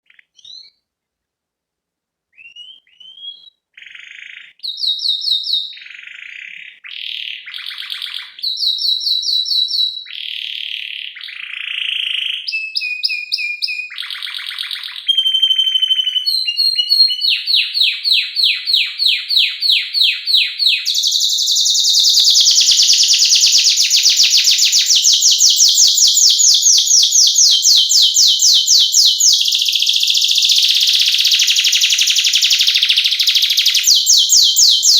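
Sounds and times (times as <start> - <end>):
canary singing trills: 2.4 - 34.9.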